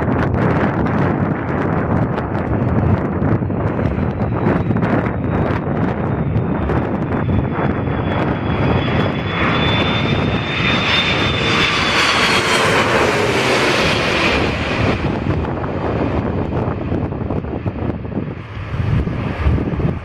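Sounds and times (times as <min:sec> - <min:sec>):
jet airliner passing: 0:00.0 - 0:20.0
wind buffeting microphone: 0:00.0 - 0:20.0.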